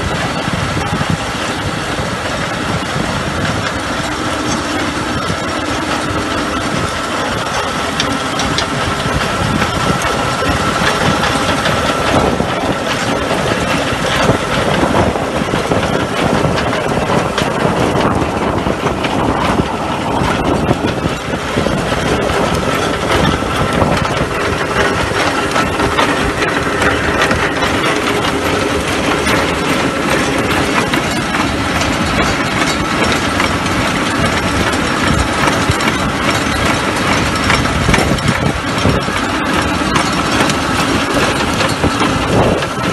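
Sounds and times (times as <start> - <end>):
high whine: 0.0 - 42.9
spading machine clatter: 0.0 - 42.9
tractor engine running: 0.0 - 42.9.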